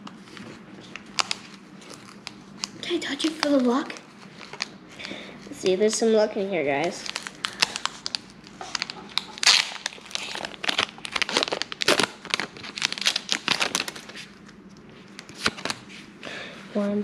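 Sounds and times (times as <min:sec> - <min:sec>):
foil wrapper crinkling and tearing: 0:00.8 - 0:15.9.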